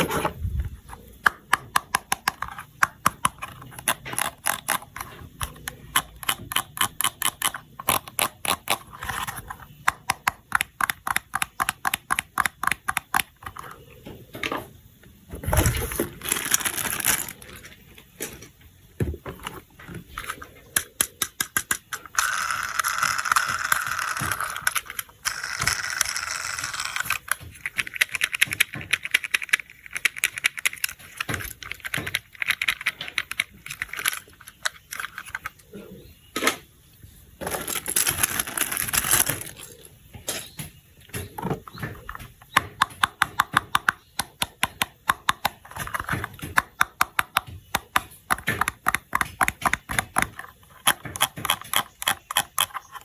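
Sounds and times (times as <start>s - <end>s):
plastic toy parts clicking: 0.0s - 13.8s, 15.4s - 18.4s, 19.2s - 35.6s, 37.4s - 53.0s.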